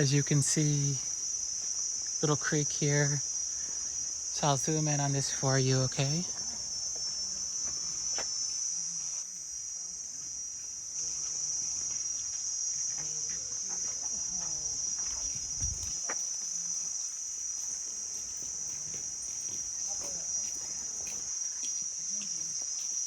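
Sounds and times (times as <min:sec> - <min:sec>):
insect chorus drone: 0:00.0 - 0:23.0.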